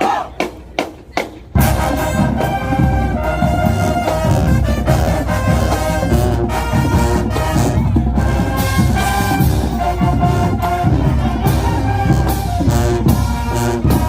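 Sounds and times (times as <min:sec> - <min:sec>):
marching band playing brass music: 0:00.0 - 0:14.0.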